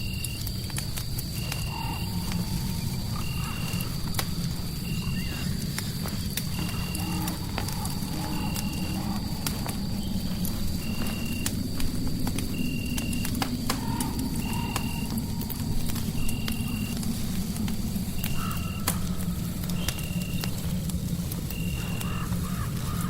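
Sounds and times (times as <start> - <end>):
fire crackling and popping: 0.0 - 23.0
low rumble: 1.0 - 22.9.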